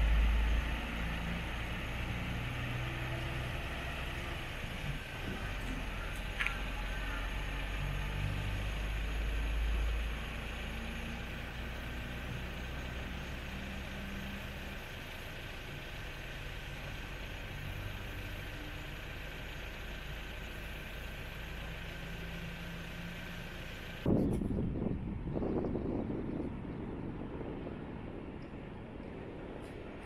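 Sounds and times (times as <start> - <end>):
diesel truck engine running: 0.0 - 30.0.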